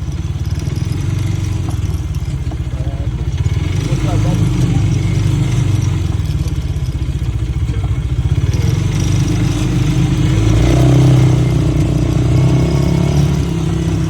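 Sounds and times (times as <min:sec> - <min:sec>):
vehicle engine throbbing: 0:00.0 - 0:14.0.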